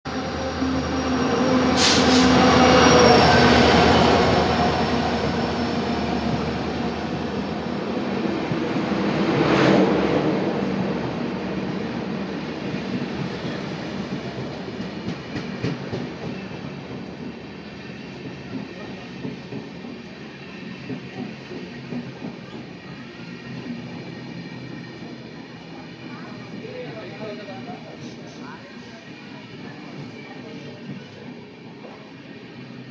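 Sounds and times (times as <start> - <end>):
train running on rails: 0.1 - 32.9.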